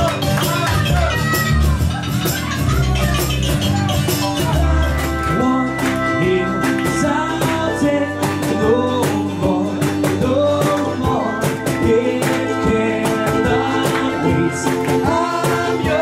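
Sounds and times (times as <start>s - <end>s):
accordion: 0.0s - 16.0s
strummed acoustic guitar: 0.0s - 16.0s.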